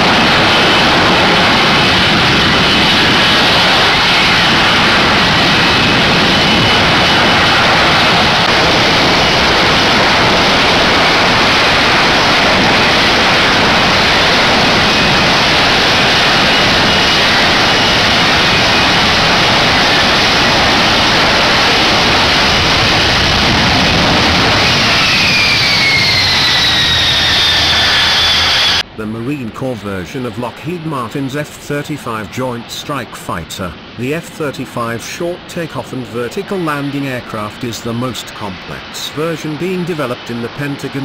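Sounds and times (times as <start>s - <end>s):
jet engine roar: 0.0s - 41.0s
jet engine whine falling: 0.0s - 41.0s.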